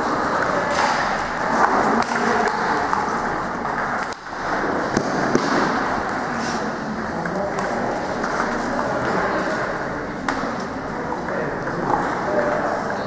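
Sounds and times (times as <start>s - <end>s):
sports hall background noise: 0.0s - 13.0s.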